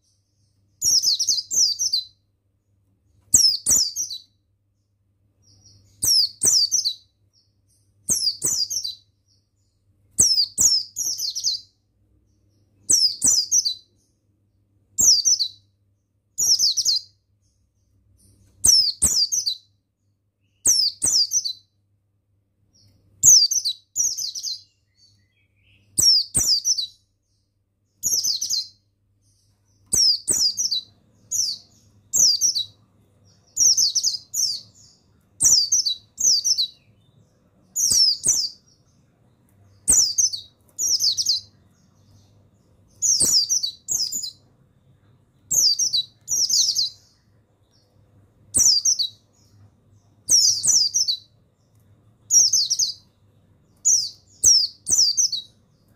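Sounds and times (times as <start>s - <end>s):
bird singing rapid high chirps: 0.0s - 21.8s, 22.7s - 55.9s.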